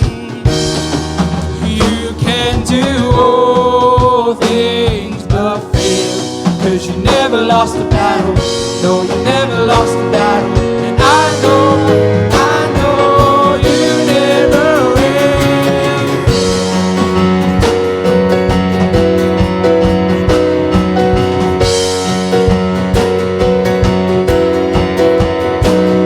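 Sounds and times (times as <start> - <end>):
drum kit: 0.0 - 26.0
worship band music: 0.0 - 26.0.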